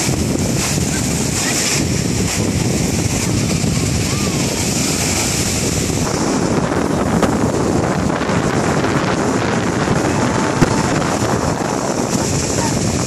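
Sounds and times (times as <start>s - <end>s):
small surf waves breaking: 0.0s - 13.0s
wind buffeting microphone: 0.0s - 13.0s.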